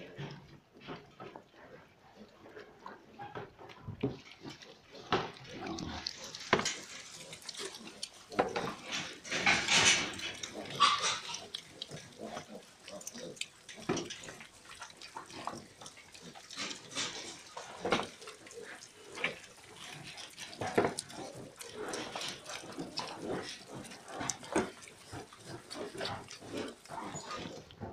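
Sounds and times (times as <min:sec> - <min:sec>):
pigs grunting: 0:00.0 - 0:27.9.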